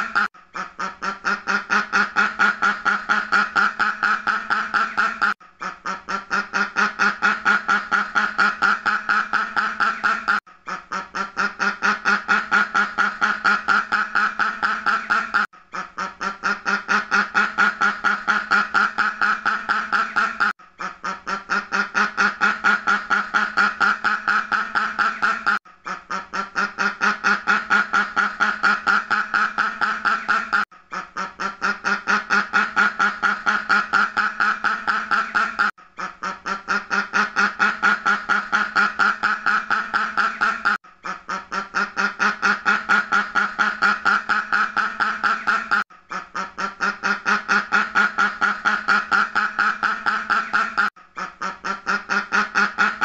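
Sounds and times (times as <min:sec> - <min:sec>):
duck quacking: 0:00.0 - 0:53.0.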